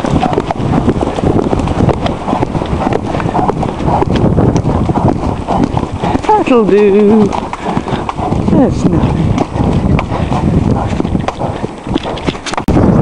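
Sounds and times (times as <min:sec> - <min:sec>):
horse hoofbeats cantering: 0:00.0 - 0:13.0
wind on microphone: 0:00.0 - 0:13.0.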